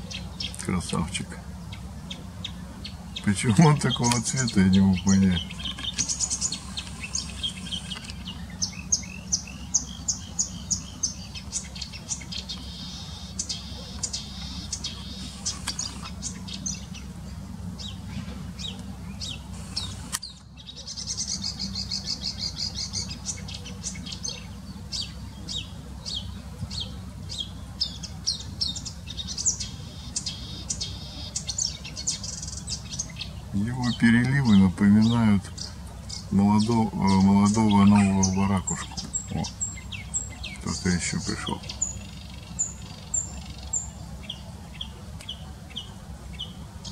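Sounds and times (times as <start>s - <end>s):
warbler singing: 0.0s - 46.9s.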